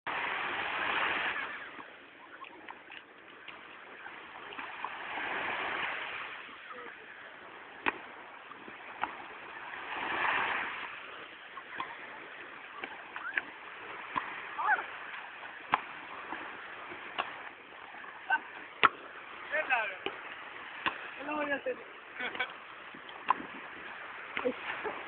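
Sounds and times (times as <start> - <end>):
waves washing onto beach: 0.1 - 25.0.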